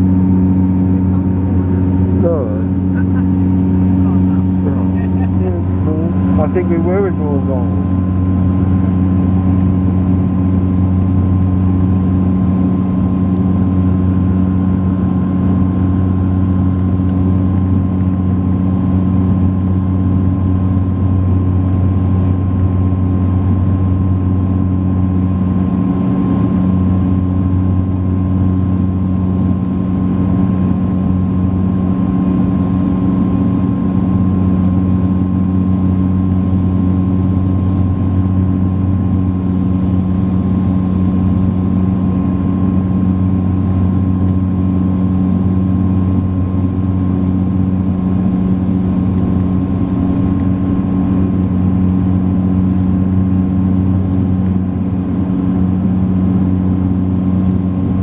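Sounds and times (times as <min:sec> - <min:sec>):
high whine: 0:00.0 - 0:58.0
turboprop engines humming: 0:00.0 - 0:58.0.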